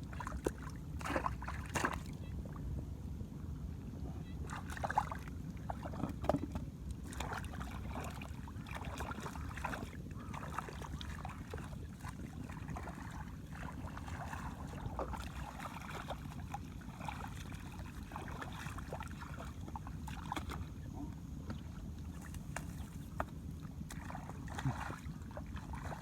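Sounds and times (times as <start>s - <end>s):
shallow water splashing: 0.0s - 2.3s, 4.2s - 26.0s.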